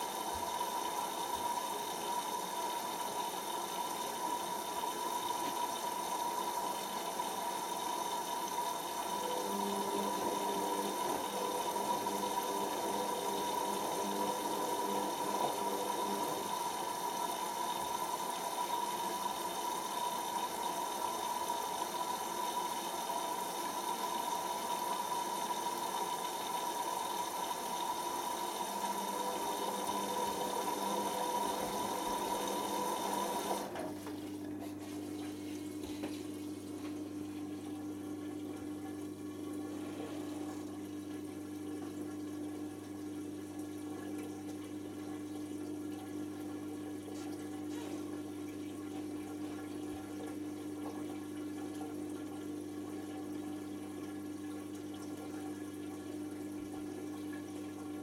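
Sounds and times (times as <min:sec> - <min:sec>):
drain pump whine: 0:00.0 - 0:58.0
water running in: 0:00.0 - 0:58.0.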